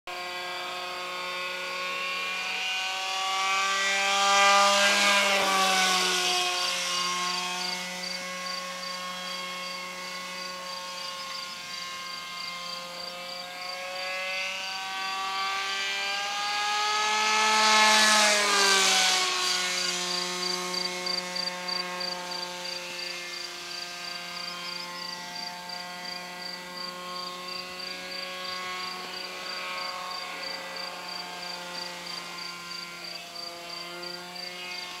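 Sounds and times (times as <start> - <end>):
model aircraft motor flying past: 0.1 - 35.0.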